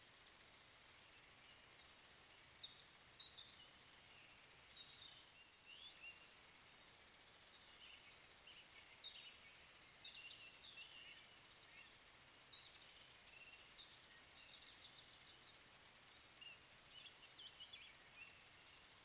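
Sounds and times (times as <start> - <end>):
faint steady hiss: 0.0 - 19.0
small birds chirping: 0.0 - 19.0.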